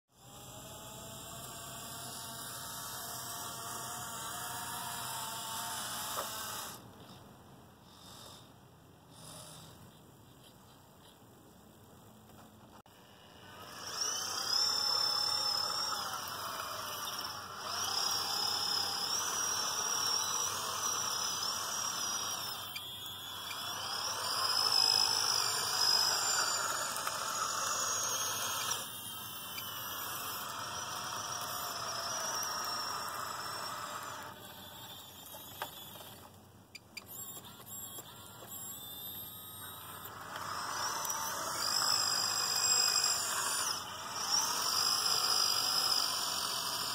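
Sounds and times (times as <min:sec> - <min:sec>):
small electric motors whining: 0:00.1 - 0:07.2, 0:07.8 - 0:08.5, 0:09.1 - 0:10.0, 0:12.3 - 0:46.9.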